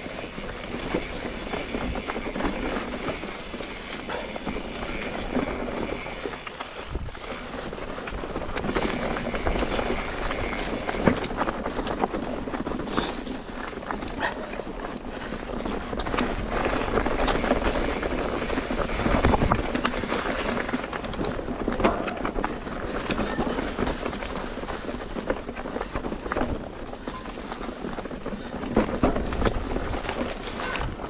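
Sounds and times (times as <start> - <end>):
bike rattling and knocking: 0.0 - 31.0
bike tyre and wind noise: 0.0 - 31.0.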